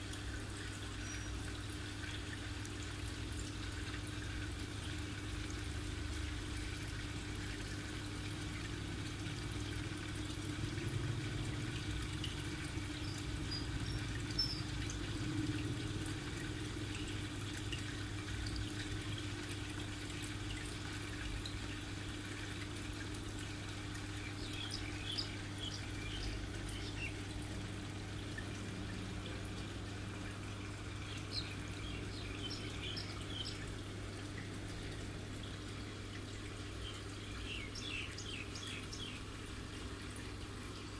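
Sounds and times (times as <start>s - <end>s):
water trickling in aquarium filter: 0.0s - 40.9s.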